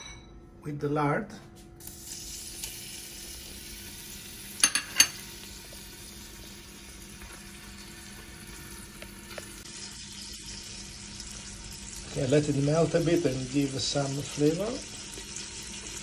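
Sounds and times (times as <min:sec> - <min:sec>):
bacon sizzling in oil: 0:01.8 - 0:16.0.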